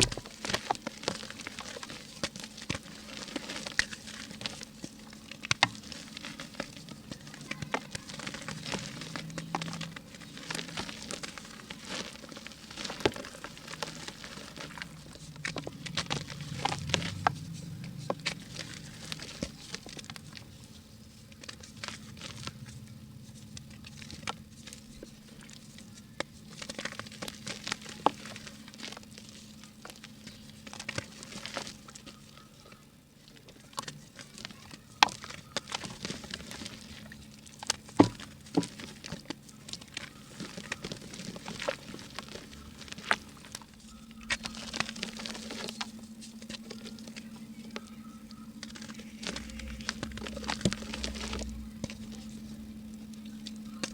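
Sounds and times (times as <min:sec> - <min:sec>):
dry mud crumbling: 0:00.0 - 0:53.9.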